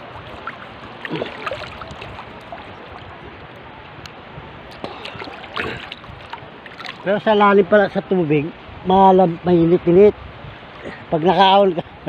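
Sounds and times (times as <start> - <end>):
water rushing along boat hull: 0.0 - 12.0.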